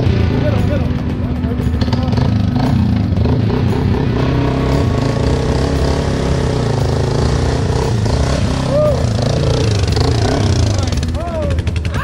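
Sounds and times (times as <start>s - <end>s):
loud atv engine running: 0.0s - 12.0s.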